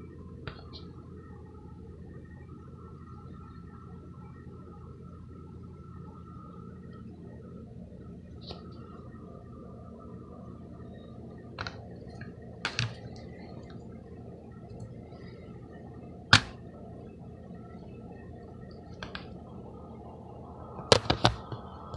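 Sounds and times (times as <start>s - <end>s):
low hum: 0.0s - 21.9s.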